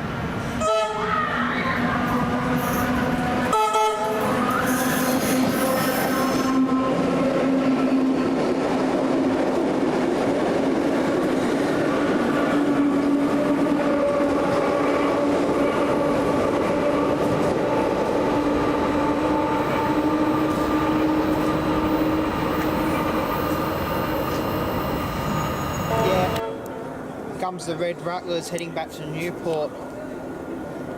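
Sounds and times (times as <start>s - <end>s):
train running: 0.0s - 30.9s.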